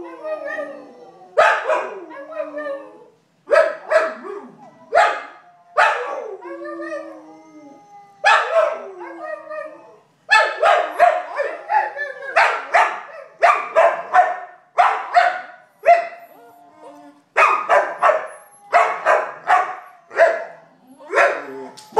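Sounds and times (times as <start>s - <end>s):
dog howling and yelping: 0.0s - 3.2s, 3.8s - 10.0s, 10.6s - 14.1s, 15.8s - 21.9s.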